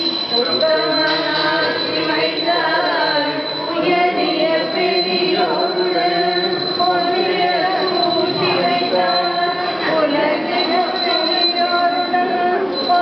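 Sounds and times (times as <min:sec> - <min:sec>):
women singing together: 0:00.0 - 0:13.0.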